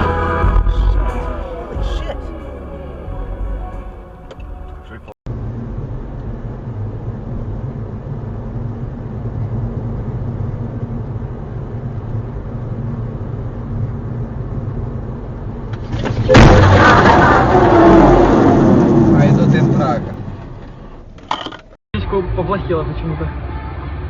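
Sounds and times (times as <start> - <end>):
car engine drone: 0.0 - 24.0
road noise inside car: 0.0 - 24.0.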